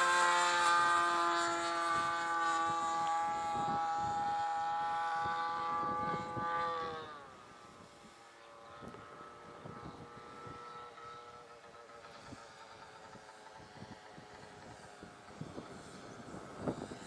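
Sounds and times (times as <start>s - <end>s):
model jet motor whining: 0.0s - 17.0s.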